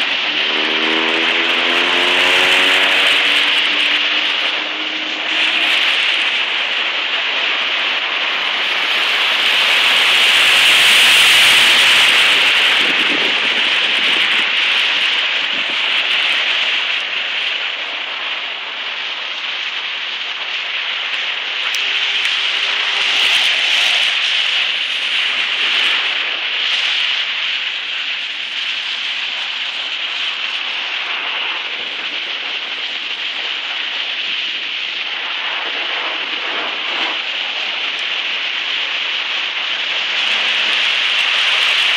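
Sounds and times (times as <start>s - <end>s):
water rushing on flooded street: 0.0s - 41.9s.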